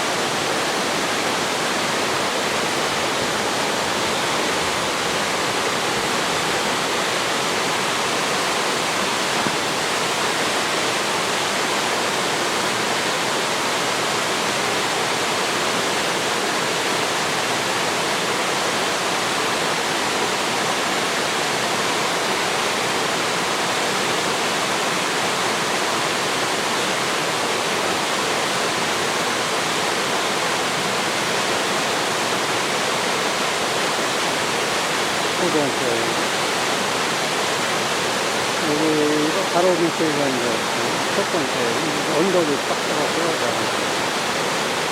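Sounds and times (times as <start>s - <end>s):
waterfall pouring into pool: 0.0s - 38.6s, 42.5s - 44.9s.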